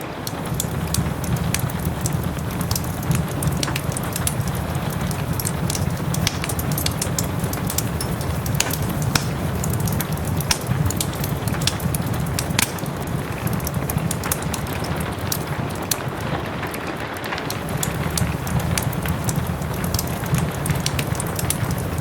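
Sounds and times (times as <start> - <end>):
rain hiss and patter: 0.0 - 22.0
wood fire crackling and popping: 0.0 - 22.0.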